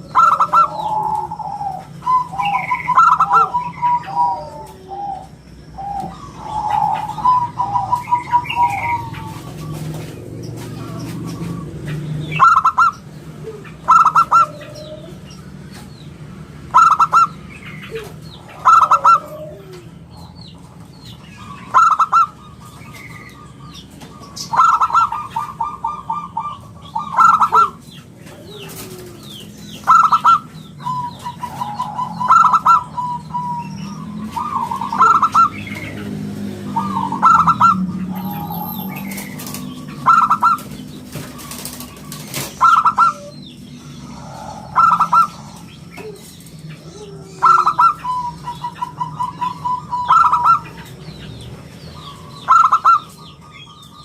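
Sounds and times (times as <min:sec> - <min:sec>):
dove cooing: 0:00.0 - 0:54.0
rolling bird trills: 0:00.0 - 0:54.0.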